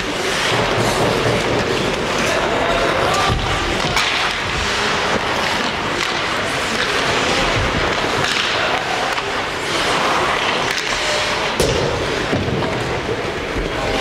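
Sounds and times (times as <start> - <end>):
hockey sticks and puck clacking: 0.0 - 14.0
skates scraping ice: 0.0 - 14.0.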